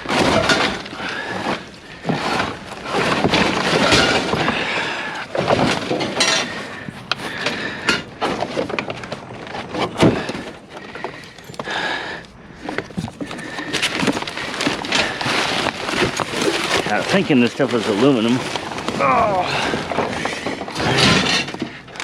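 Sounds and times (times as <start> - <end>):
scrap clattering in metal dumpster: 0.0 - 11.9, 13.1 - 22.0.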